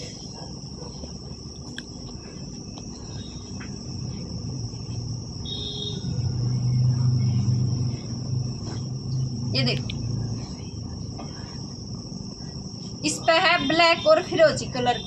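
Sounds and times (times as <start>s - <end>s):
crickets trilling: 0.0s - 15.0s
low steady hum: 0.0s - 15.0s.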